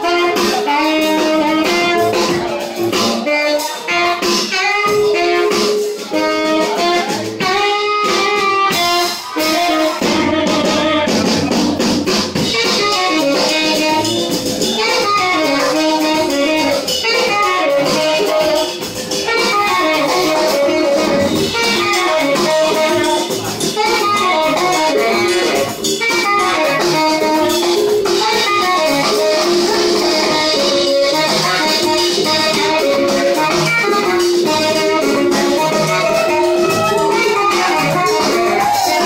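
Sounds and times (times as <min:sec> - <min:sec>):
drum kit: 0:00.0 - 0:39.0
saxophone melody: 0:00.0 - 0:39.0.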